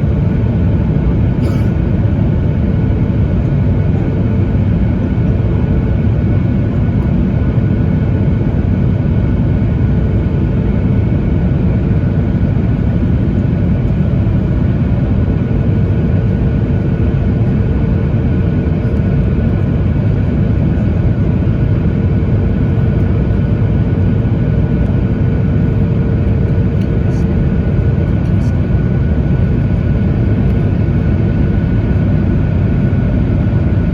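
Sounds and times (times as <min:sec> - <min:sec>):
airliner cabin drone: 0:00.0 - 0:33.9.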